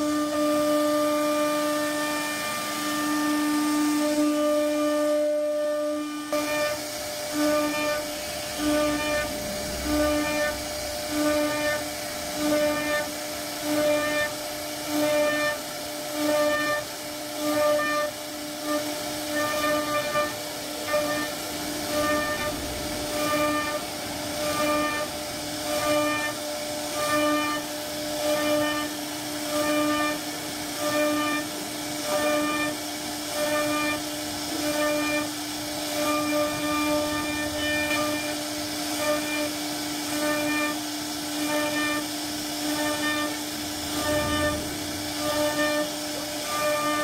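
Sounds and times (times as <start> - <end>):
router spindle whining into wood: 0.0 - 47.0.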